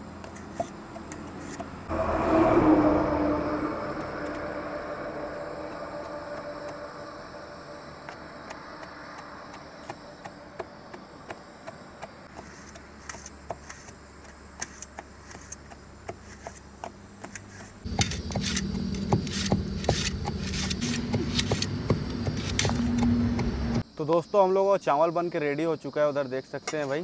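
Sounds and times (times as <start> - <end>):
steady low hum: 0.0 - 23.8.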